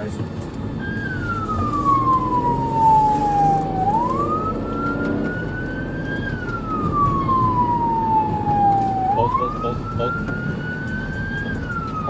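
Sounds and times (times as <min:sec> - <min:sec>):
road noise: 0:00.0 - 0:12.0
vehicle engine: 0:00.0 - 0:12.0
police siren wailing: 0:00.7 - 0:12.0.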